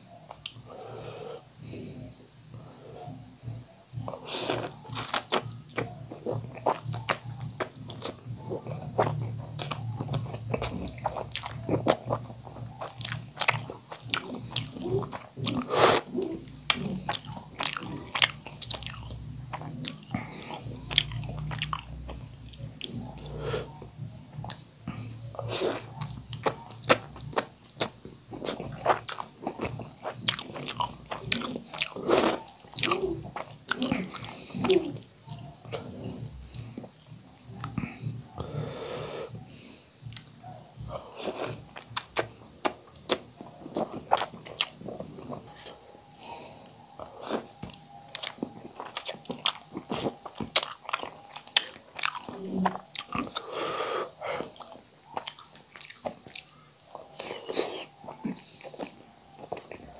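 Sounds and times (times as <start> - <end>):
wet chewing and lip smacking: 0.2 - 0.7, 4.0 - 38.4, 40.0 - 53.5, 54.2 - 59.9.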